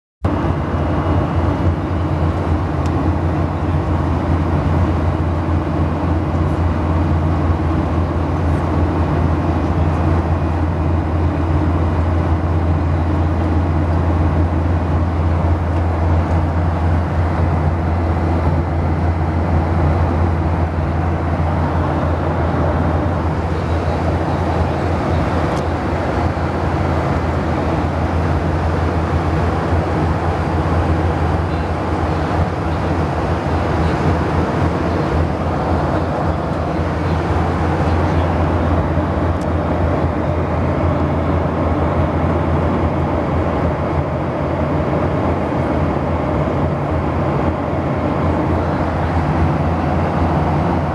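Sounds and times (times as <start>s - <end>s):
airliner cabin drone: 0.2s - 50.9s.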